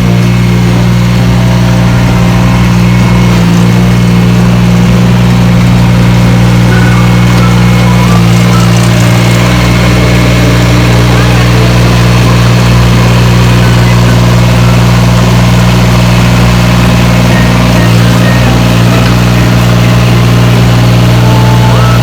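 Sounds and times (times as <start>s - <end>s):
engine idling loudly: 0.0s - 22.0s.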